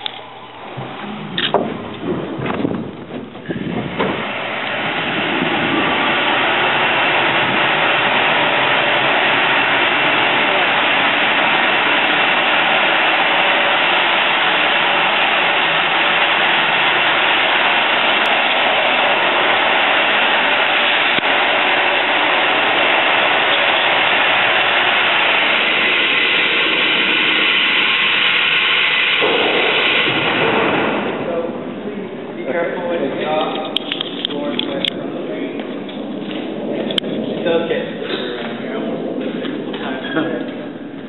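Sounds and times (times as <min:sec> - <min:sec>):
elevator machinery running: 0:00.0 - 0:41.0.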